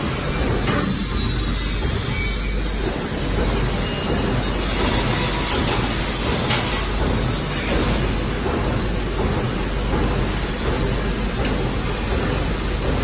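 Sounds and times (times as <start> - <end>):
loud machinery humming: 0.0 - 13.0.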